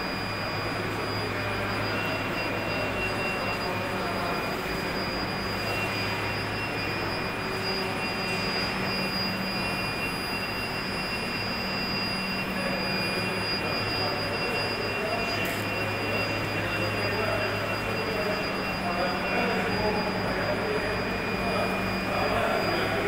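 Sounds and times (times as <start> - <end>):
thin high whine: 0.0 - 23.0.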